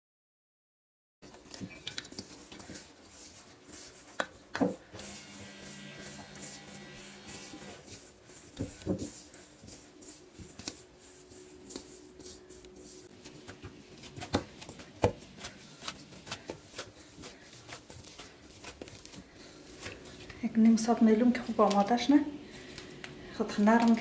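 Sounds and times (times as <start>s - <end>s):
dough squishing in bowl: 1.2s - 24.0s.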